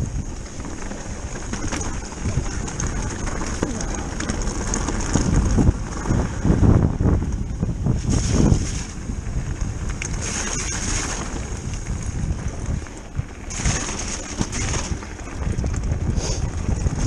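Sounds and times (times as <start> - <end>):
bike rumbling and rattling: 0.0 - 17.0
wind buffeting microphone: 0.0 - 17.0.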